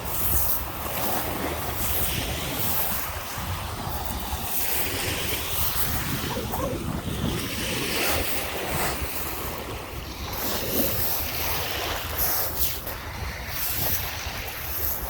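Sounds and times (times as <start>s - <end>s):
waves washing onto shore: 0.0s - 15.0s
wind buffeting microphone: 0.0s - 15.0s.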